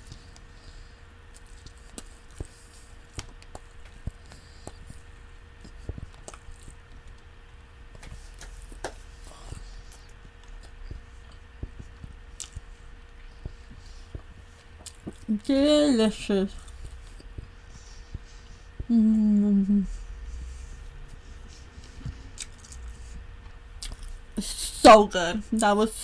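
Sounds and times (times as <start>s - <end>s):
person chewing a sandwich: 0.0s - 15.3s, 16.5s - 18.9s, 19.8s - 24.4s
faint steady hum: 0.0s - 26.0s.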